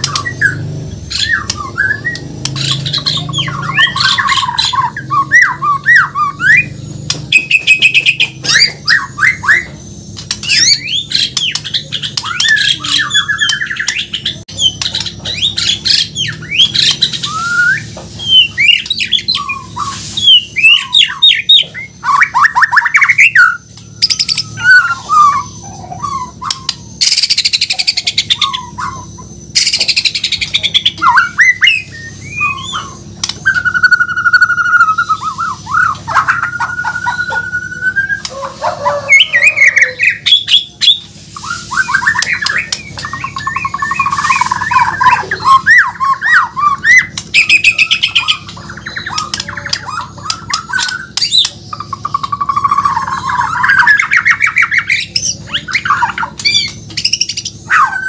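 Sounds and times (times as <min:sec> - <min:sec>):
songbird singing varied song: 0:00.0 - 0:58.0.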